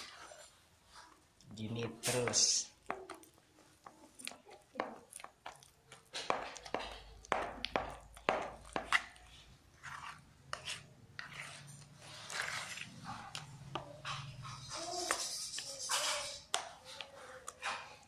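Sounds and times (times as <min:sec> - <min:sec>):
utensil scraping and tapping bowl: 0:01.7 - 0:18.0.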